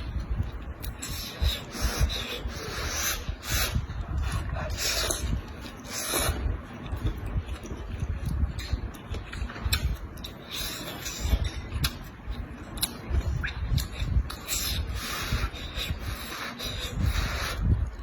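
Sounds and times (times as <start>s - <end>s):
wet chewing and mouth sounds: 0.0s - 18.0s.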